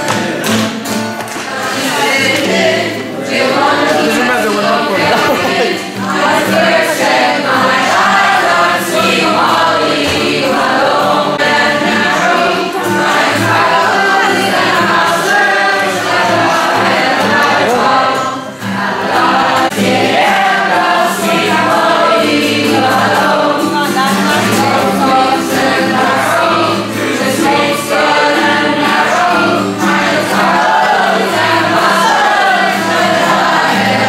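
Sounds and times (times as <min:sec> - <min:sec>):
group singing in chorus: 0:00.0 - 0:34.0
strummed acoustic guitars: 0:00.0 - 0:34.0.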